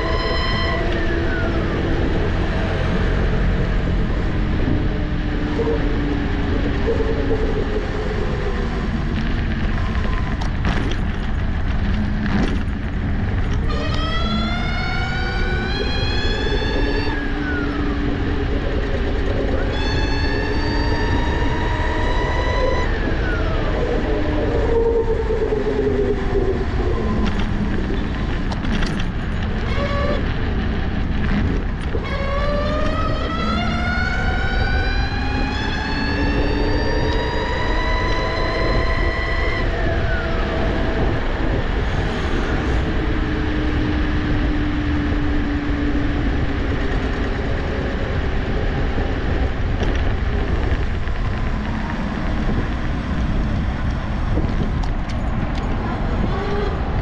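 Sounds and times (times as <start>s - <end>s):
electric motor whining: 0.0s - 57.0s
wind rumble on microphone: 0.0s - 57.0s.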